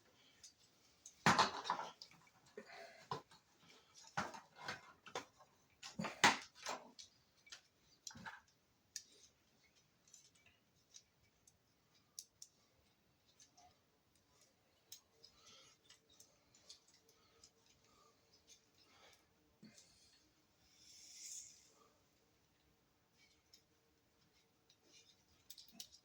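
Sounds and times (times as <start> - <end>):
small parts clicking and knocking: 0.2 - 20.5, 22.4 - 26.0.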